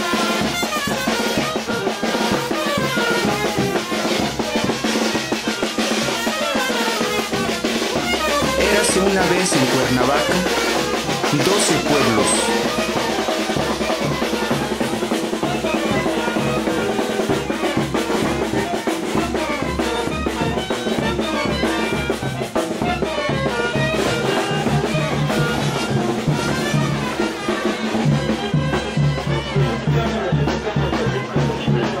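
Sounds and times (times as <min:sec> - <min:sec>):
brass band playing: 0:00.0 - 0:32.0.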